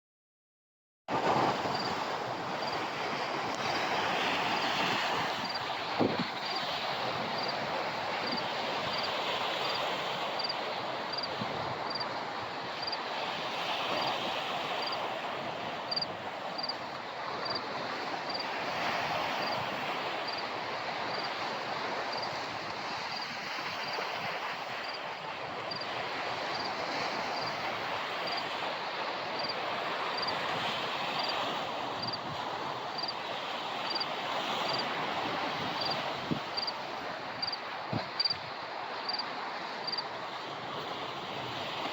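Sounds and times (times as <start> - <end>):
sea surf washing in: 1.1 - 41.9.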